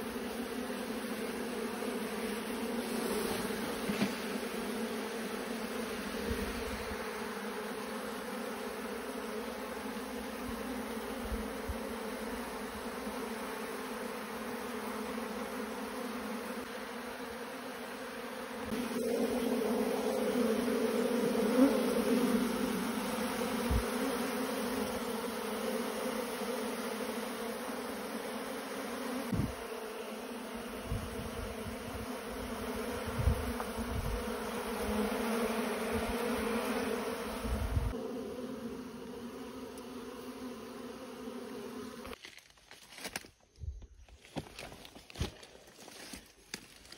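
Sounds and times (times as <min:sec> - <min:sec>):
bees buzzing: 0:00.0 - 0:42.2.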